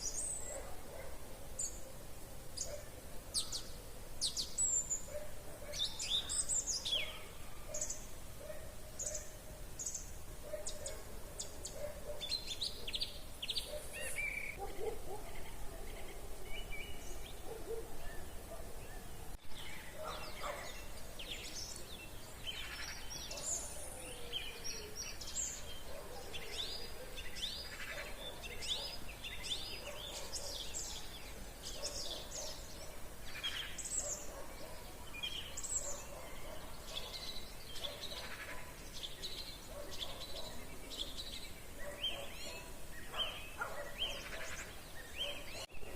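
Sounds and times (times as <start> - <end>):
wild birds singing: 0.0 - 45.9.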